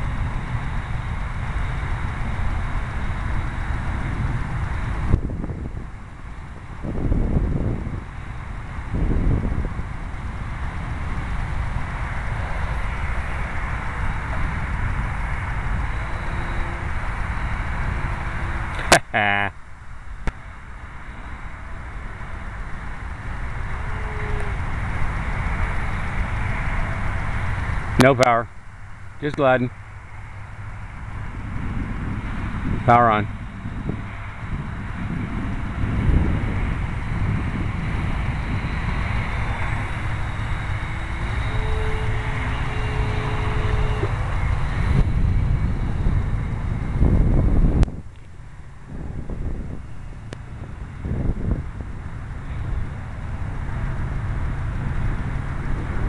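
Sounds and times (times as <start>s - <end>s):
electric motor whine: 0.0s - 19.0s, 19.7s - 56.0s
wind buffeting microphone: 0.0s - 19.0s, 19.7s - 56.0s.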